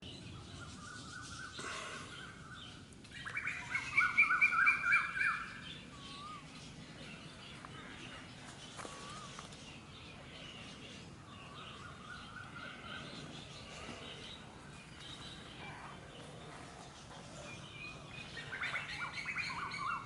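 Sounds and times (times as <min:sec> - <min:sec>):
bird warbling song: 0:00.0 - 0:20.0.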